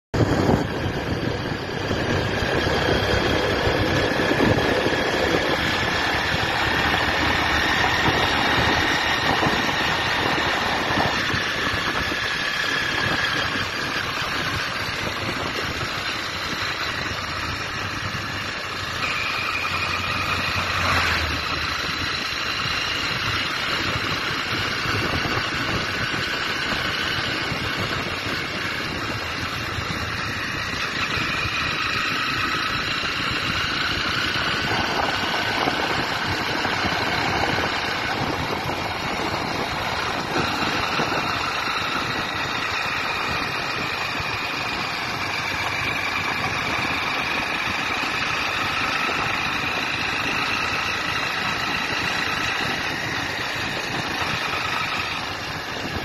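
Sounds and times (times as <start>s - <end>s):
road and wind noise: 0.0s - 56.0s
vehicle engine running: 0.1s - 56.0s.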